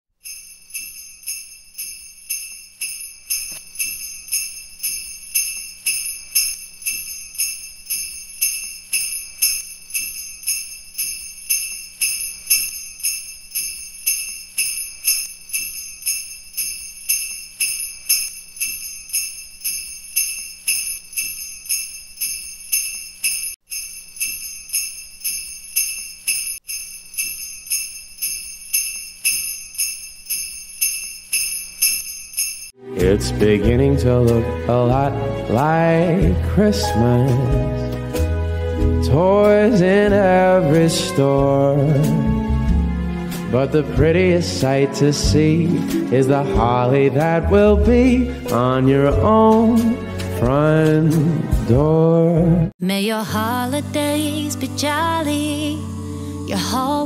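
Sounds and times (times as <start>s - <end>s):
sleigh bells shaken: 0.2s - 42.6s, 43.4s - 51.2s.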